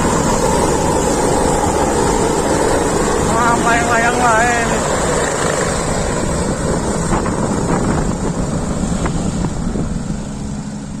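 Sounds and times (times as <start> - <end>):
helicopter running: 0.0 - 11.0
wind rumble on microphone: 0.0 - 11.0.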